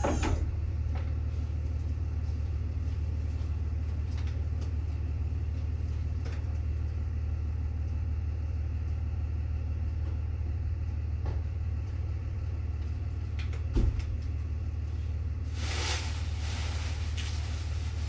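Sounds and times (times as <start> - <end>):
vehicle running rumble: 0.0 - 18.0.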